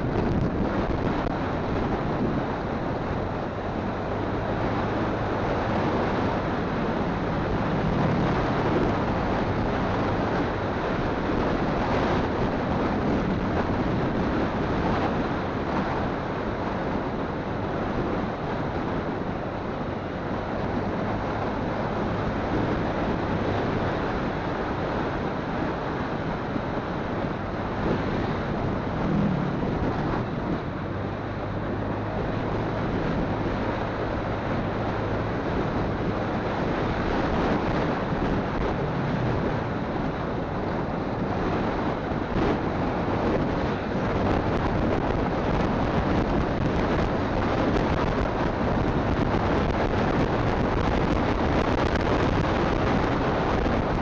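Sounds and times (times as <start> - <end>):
motorcycle engine low hum: 0.0 - 54.0
wind rushing over microphone: 0.0 - 54.0.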